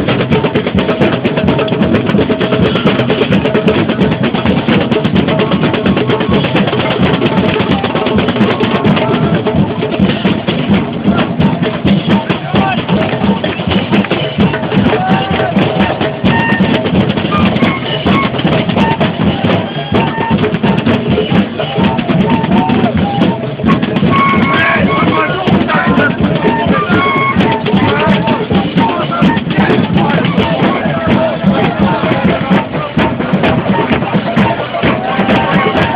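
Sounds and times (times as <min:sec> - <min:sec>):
drums and percussion beating: 0:00.0 - 0:35.9
voices: 0:05.4 - 0:35.9.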